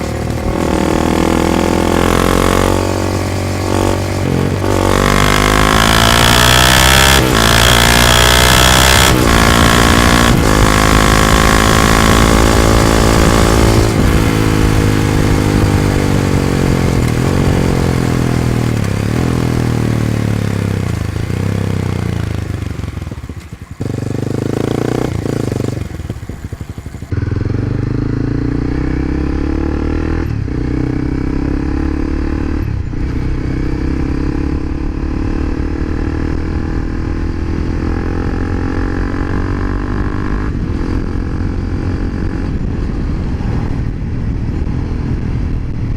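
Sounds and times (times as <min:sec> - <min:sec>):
motorcycle exhaust revving: 0:00.0 - 0:45.9.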